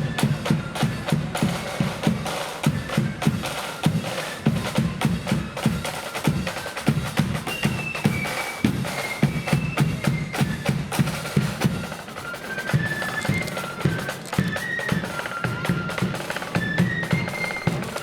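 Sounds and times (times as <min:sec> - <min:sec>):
bass drum and snare drums: 0:00.0 - 0:18.0
marching flute band: 0:00.0 - 0:18.0.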